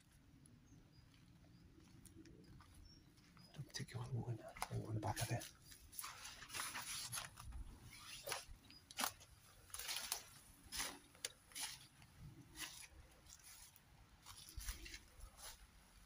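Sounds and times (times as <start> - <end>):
footsteps crunching through dry vegetation: 0.9 - 16.0.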